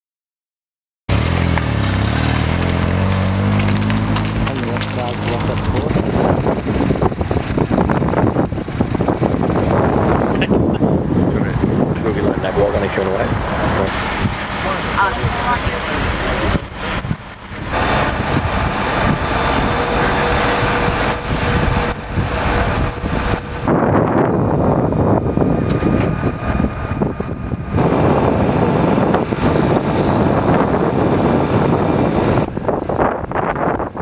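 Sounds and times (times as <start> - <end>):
vehicle engine rumble: 1.1 - 34.0
wind rushing: 2.4 - 34.0.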